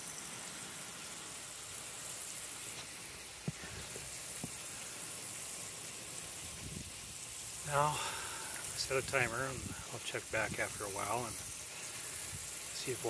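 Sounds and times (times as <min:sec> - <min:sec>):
sprinkler water spraying: 0:00.0 - 0:13.0.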